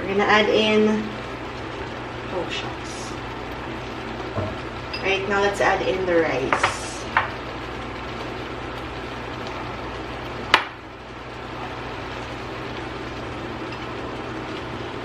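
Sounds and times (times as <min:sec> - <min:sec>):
steady kitchen hiss: 0:00.0 - 0:15.0.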